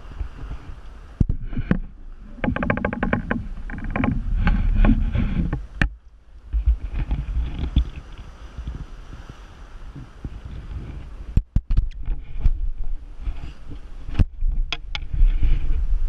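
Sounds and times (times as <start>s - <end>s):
creaks and knocks from sailing gear: 0.0s - 16.0s
wind rumble: 0.0s - 16.0s.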